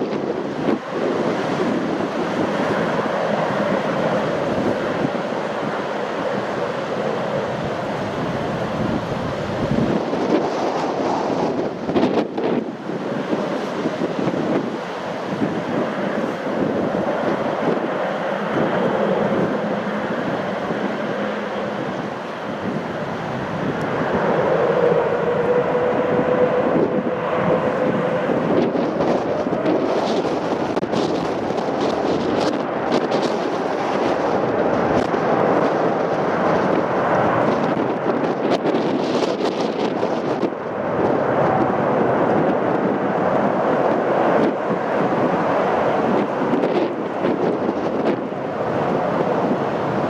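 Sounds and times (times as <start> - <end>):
jet airliner engines: 0.0 - 50.0
wind buffeting microphone: 0.0 - 50.0.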